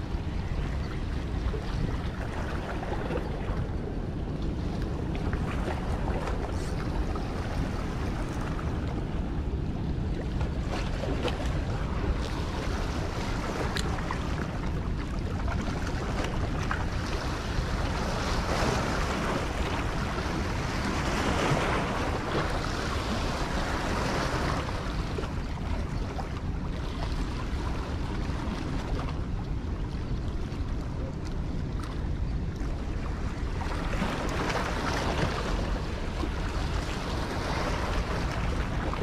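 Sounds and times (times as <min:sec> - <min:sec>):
rushing water: 0:00.0 - 0:39.0
wind buffeting microphone: 0:00.0 - 0:39.0.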